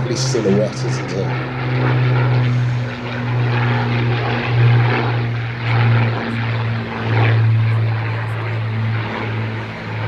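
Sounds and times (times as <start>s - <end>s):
model plane propeller engines: 0.0s - 10.0s.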